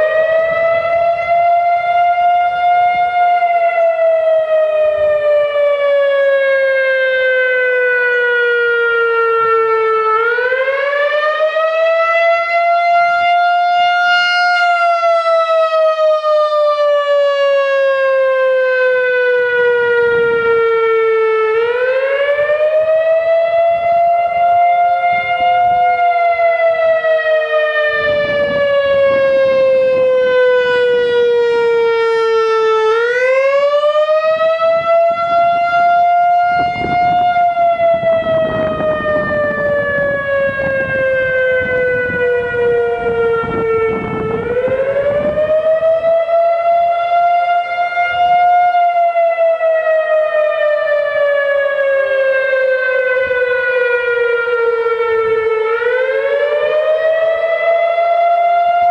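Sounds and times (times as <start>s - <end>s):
warning siren wailing: 0.0s - 58.9s.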